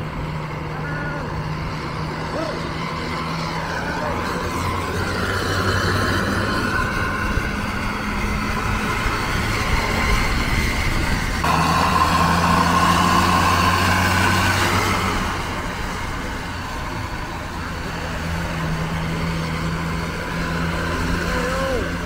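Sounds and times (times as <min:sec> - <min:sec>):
engine whine: 0:00.0 - 0:22.0
traffic and road noise: 0:00.0 - 0:22.0
vehicle engine running: 0:00.0 - 0:22.0.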